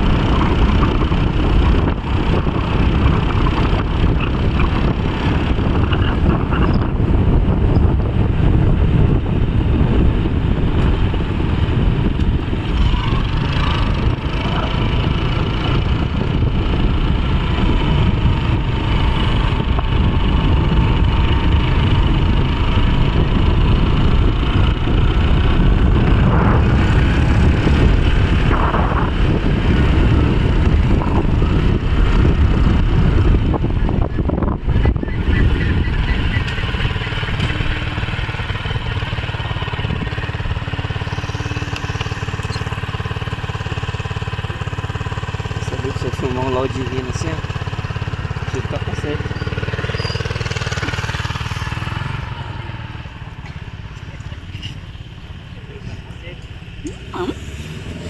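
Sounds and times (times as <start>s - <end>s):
vehicle running: 0.0s - 58.0s
wind buffeting microphone: 0.0s - 58.0s.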